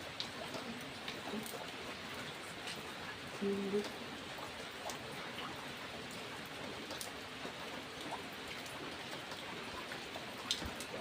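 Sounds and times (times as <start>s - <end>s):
raindrops ticking on a surface: 0.0s - 11.0s
steady rain hiss: 0.0s - 11.0s.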